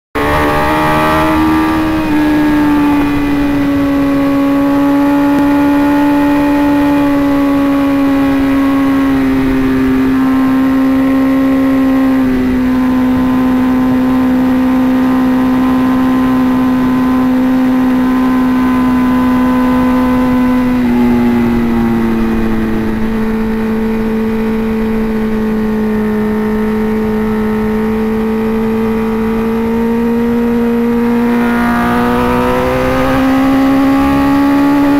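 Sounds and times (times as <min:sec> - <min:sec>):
motorcycle engine at high speed: 0:00.1 - 0:34.9
rush of wind noise: 0:00.2 - 0:34.9.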